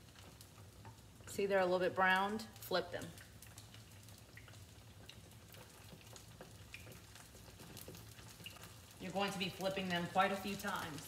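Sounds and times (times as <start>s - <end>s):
faint frying sizzle with pops: 0.0s - 11.0s.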